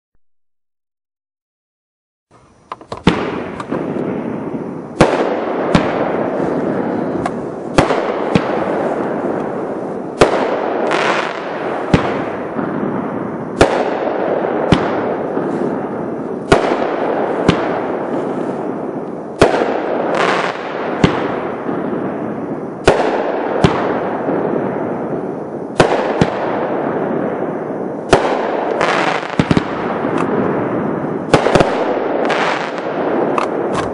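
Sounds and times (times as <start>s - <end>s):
firework bangs: 2.3s - 33.9s
firework hiss: 2.4s - 33.9s.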